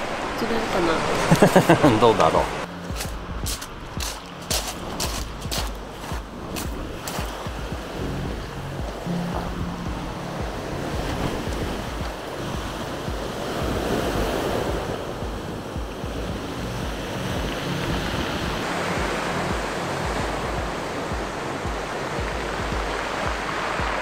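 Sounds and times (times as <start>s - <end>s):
surf washing over pebbles: 0.0s - 24.0s
wind buffeting microphone: 2.5s - 24.0s.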